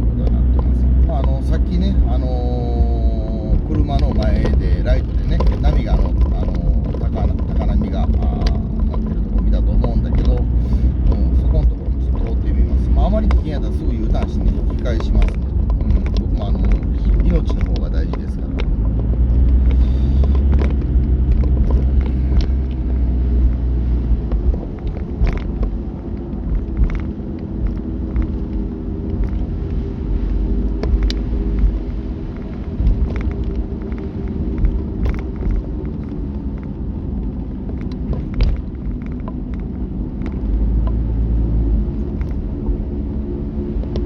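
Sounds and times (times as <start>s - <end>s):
road and engine noise: 0.0s - 44.0s
wind gusts buffeting car: 0.0s - 44.0s.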